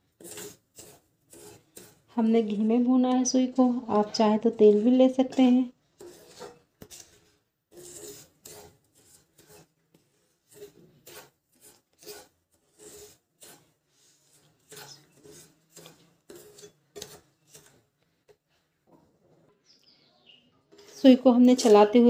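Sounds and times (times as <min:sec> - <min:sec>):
wooden spatula scraping pan: 0:00.0 - 0:19.8, 0:20.7 - 0:22.0.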